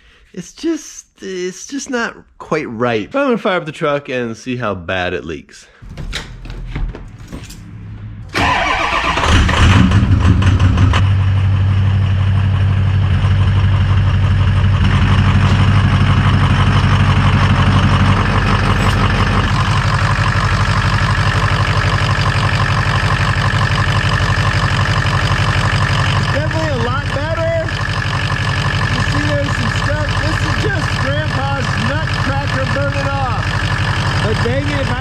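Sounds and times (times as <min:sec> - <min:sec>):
diesel engine starting and idling: 0:06.1 - 0:35.0.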